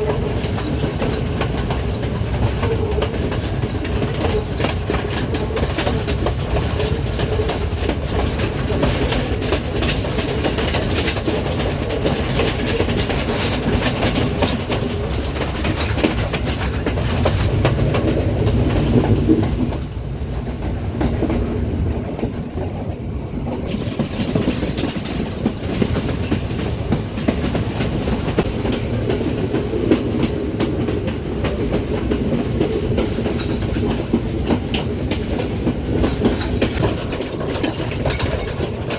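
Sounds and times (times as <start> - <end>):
train rumble: 0.0 - 38.9
train wheels clattering: 0.0 - 38.9.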